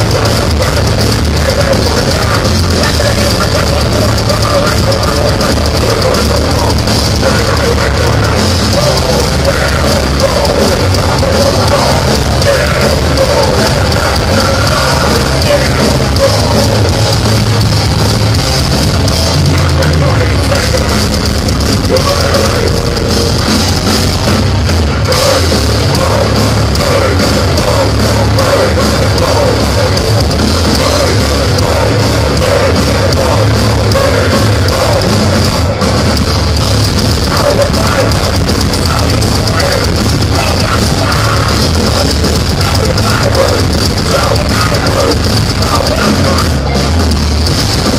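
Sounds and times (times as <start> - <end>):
live heavy metal band: 0.0 - 47.9.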